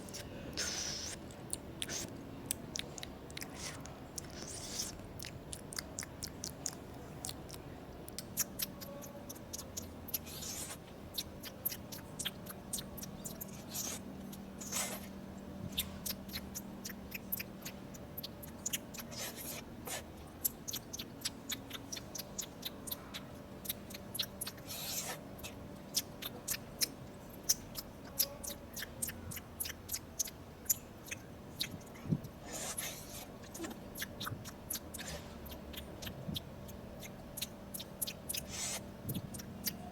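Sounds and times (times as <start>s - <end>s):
person chewing: 0.0s - 39.8s.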